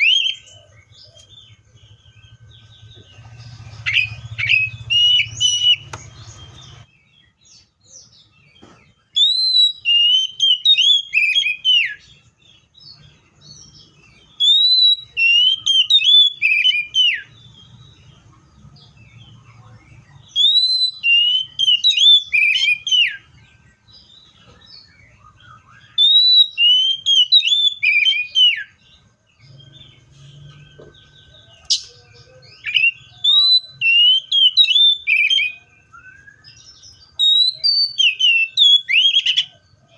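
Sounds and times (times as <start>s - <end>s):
bird whistling song: 0.0s - 39.9s.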